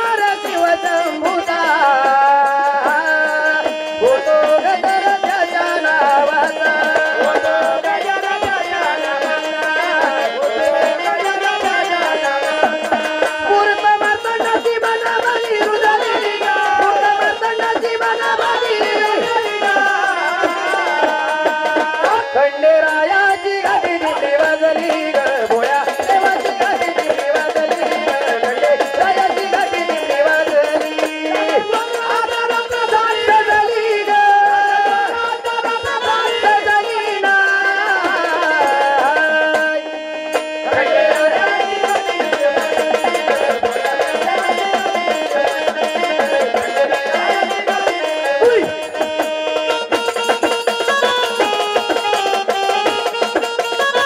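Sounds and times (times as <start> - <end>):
hand drum percussion: 0.0 - 54.0.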